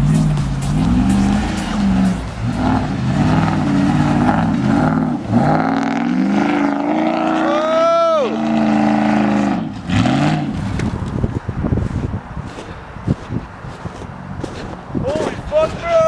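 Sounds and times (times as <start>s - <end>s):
pickup truck engine revving: 0.0s - 15.8s.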